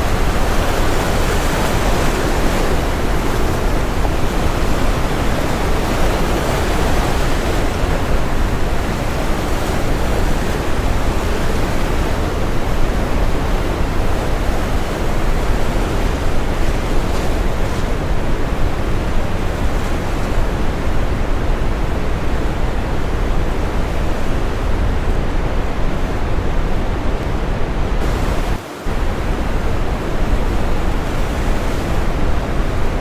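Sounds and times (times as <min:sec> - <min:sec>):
brown noise hiss: 0:00.0 - 0:33.0
ocean waves washing on shore: 0:00.0 - 0:33.0.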